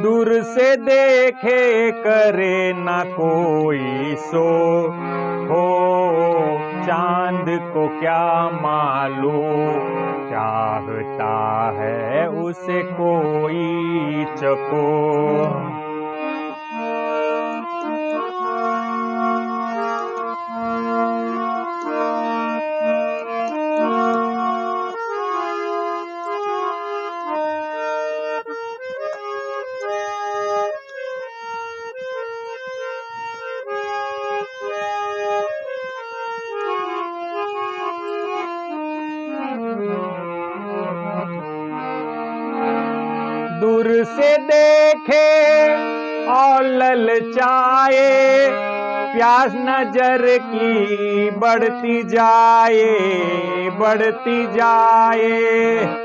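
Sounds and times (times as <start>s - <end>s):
harmonium playing: 0.0s - 56.0s.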